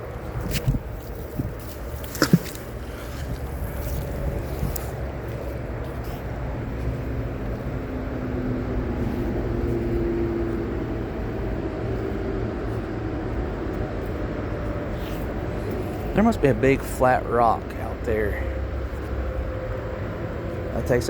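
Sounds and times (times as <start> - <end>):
low outdoor rumble: 0.0 - 21.0
vehicle engine passing: 0.0 - 21.0.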